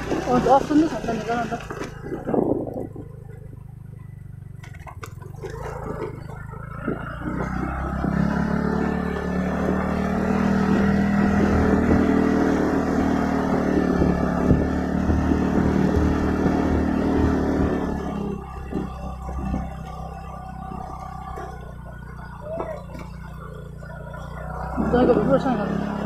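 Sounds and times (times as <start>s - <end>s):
motor scooter engine running: 0.0s - 26.0s.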